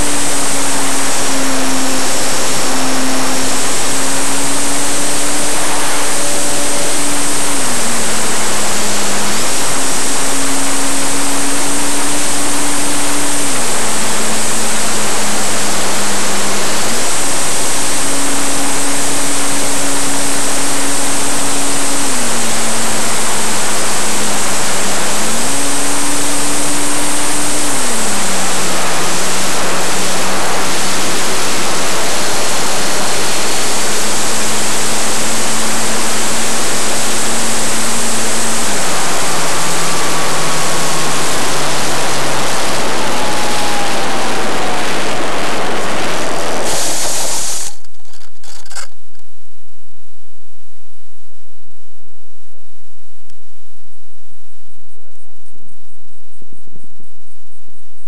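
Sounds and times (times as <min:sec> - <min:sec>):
model plane motor and propeller hum: 0:00.0 - 0:48.9
faint high whine: 0:00.0 - 0:58.0.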